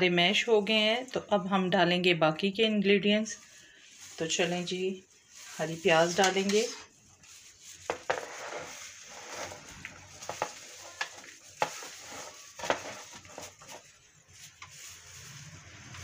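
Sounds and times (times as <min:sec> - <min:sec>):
food rustling and squishing: 0:02.6 - 0:16.0.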